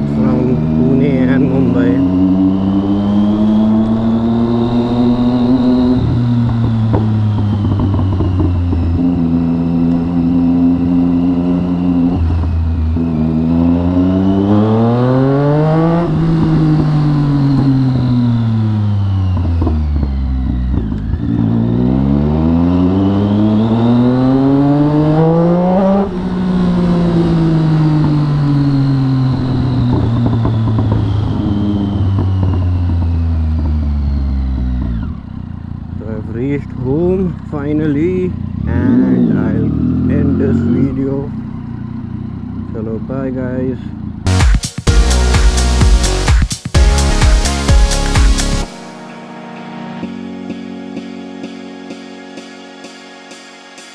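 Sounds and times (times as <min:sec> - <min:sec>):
motorcycle engine while riding: 0:00.0 - 0:49.1.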